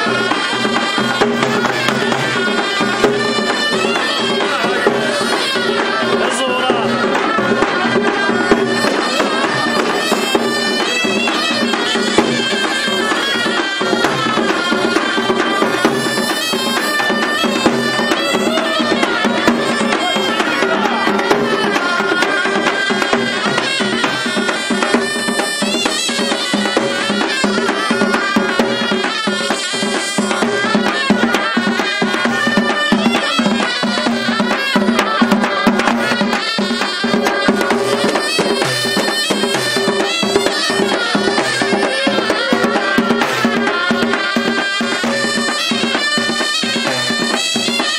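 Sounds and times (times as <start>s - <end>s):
barrel drums beaten with sticks: 0.0s - 47.9s
reedy shawms playing melody: 0.0s - 47.9s.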